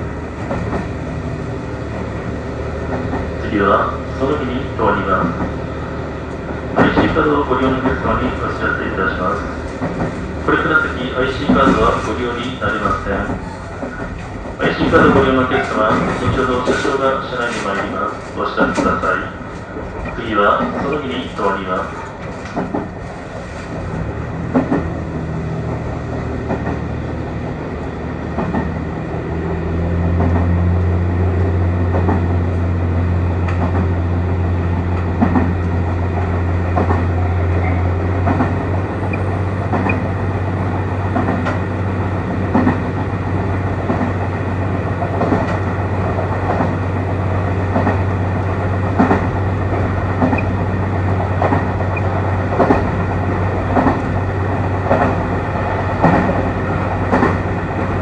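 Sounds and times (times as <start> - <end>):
railcar engine drone: 0.0 - 58.0
wheels clicking over rail joints: 6.2 - 30.7, 34.8 - 58.0.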